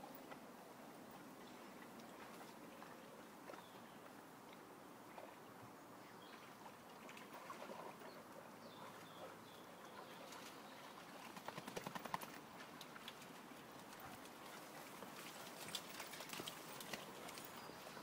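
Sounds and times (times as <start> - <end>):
dog paws splashing in stream: 0.1 - 18.0.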